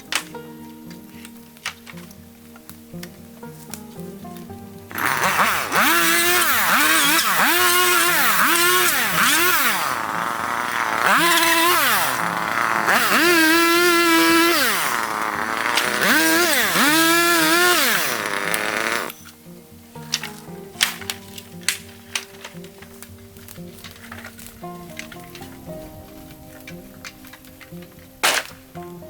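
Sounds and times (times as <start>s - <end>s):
power tool motor whining: 0.0s - 29.0s.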